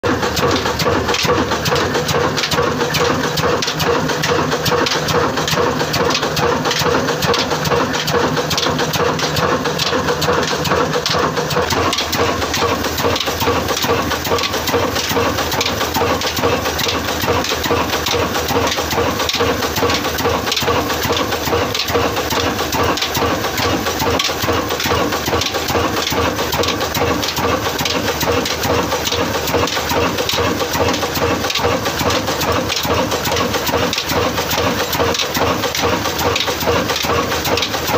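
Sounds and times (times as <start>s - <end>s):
diesel engine running steadily: 0.0s - 37.9s.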